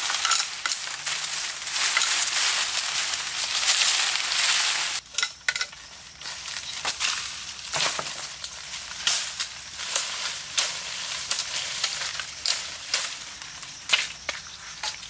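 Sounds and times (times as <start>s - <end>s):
twigs snapping: 0.0s - 5.0s, 6.2s - 15.0s
dry leaves rustling and crackling: 0.0s - 15.0s.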